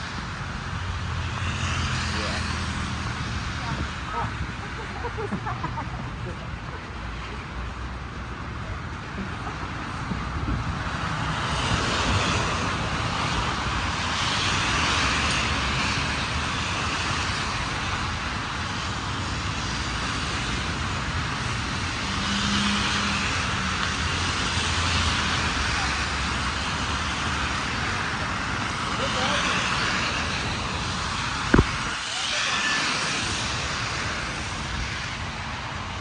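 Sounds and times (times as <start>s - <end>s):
tyres hissing on road: 0.0s - 36.0s.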